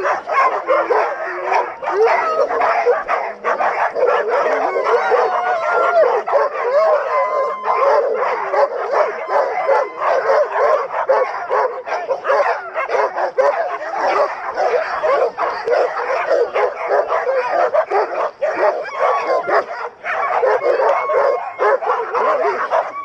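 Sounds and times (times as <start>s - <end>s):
dogs barking and yelping: 0.0s - 23.0s.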